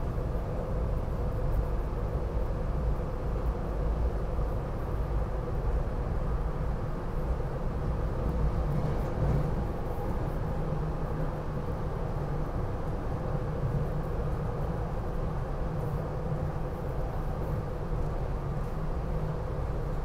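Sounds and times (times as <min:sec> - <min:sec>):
faint steady hum: 0:00.0 - 0:20.0
train carriage rumble: 0:00.0 - 0:20.0.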